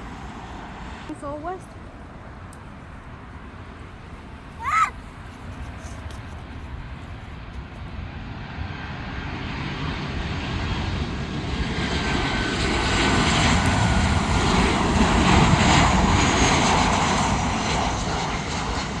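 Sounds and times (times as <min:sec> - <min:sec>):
jet airliner flying past: 0:00.0 - 0:02.4, 0:03.2 - 0:19.0
faint engine whine: 0:00.0 - 0:19.0.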